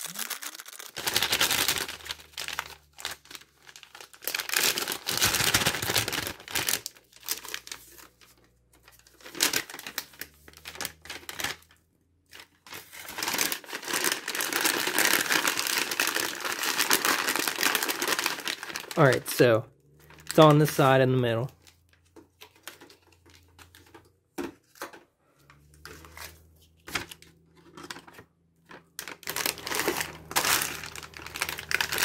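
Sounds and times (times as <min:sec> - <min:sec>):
plastic packaging crinkling: 0:00.0 - 0:24.0, 0:25.5 - 0:32.0.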